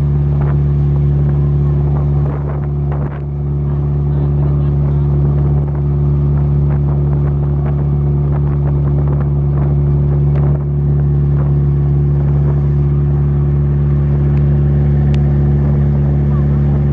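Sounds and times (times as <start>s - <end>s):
boat engine droning: 0.0s - 16.9s.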